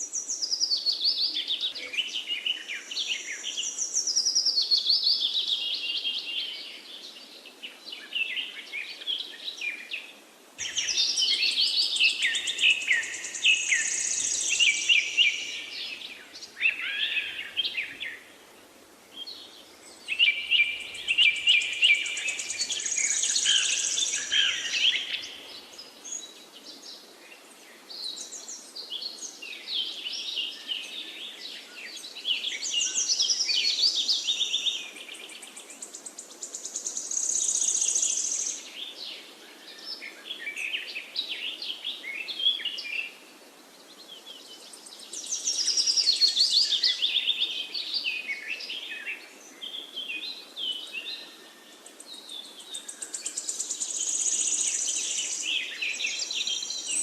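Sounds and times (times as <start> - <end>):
faint steady background hiss: 0.0 - 57.0
songbirds chirping and trilling: 0.0 - 57.0.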